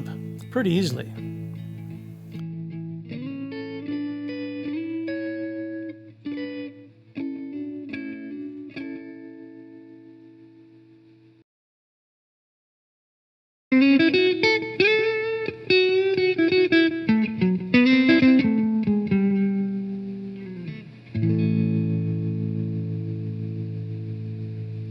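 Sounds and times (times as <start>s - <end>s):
guitar music: 0.0s - 10.1s, 13.9s - 24.9s.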